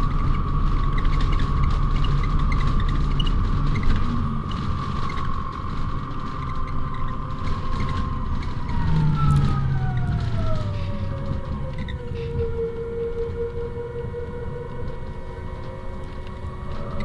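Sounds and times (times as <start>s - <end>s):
bus drive whine: 0.0s - 17.0s
bus low rumble: 0.0s - 17.0s.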